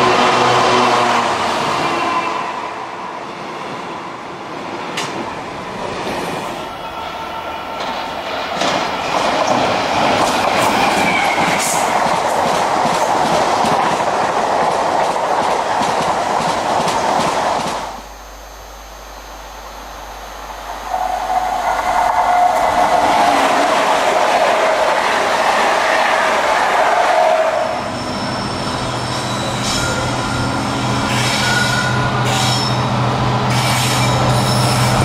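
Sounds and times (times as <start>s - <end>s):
diesel locomotive engine hum: 0.0s - 35.0s.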